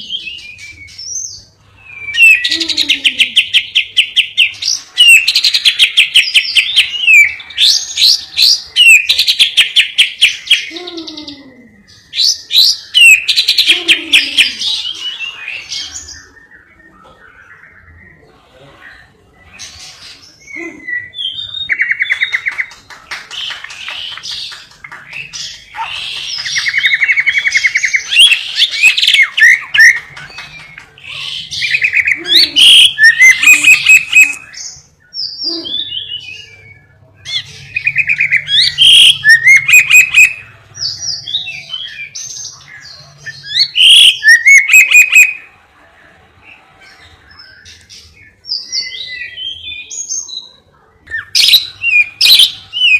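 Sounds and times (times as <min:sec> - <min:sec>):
songbird trilling and chirping: 0:00.0 - 0:45.5, 0:46.4 - 0:52.9.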